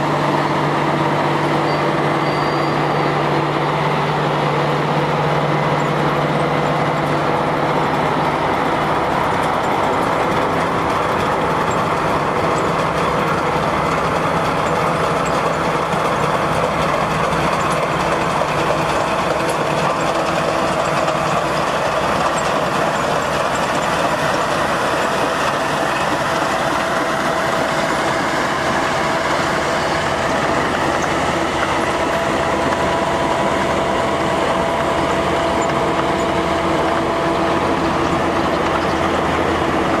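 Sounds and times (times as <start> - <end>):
heavy construction machinery running: 0.0 - 40.0.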